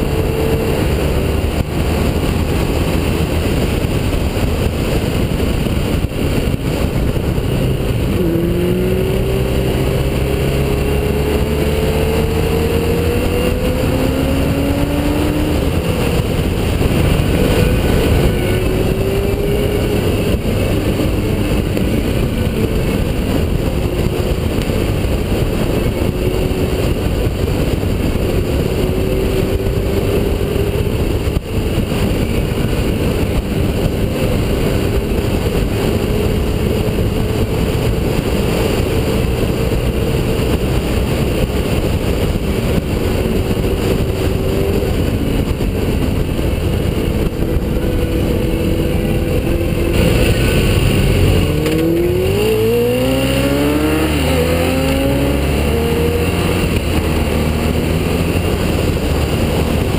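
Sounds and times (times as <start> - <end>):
motorcycle engine: 0.0 - 59.9
wind rush: 0.0 - 59.9.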